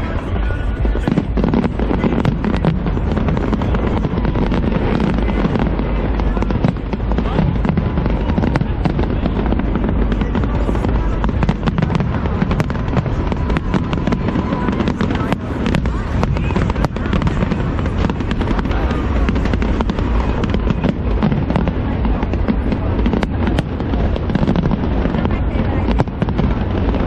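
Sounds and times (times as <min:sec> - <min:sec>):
deep rumble: 0:00.0 - 0:27.0
fireworks bangs and crackles: 0:00.0 - 0:27.0.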